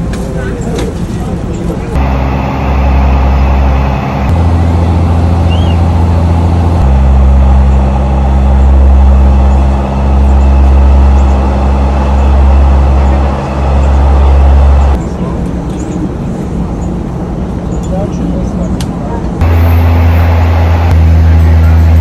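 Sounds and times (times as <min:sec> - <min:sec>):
train diesel engine drone: 0:00.0 - 0:22.0.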